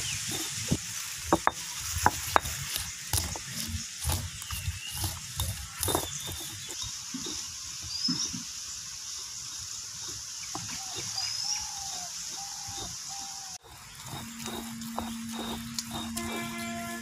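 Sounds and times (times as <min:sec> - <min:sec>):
stone roller scraping on stone: 0:00.0 - 0:08.5, 0:09.1 - 0:17.0.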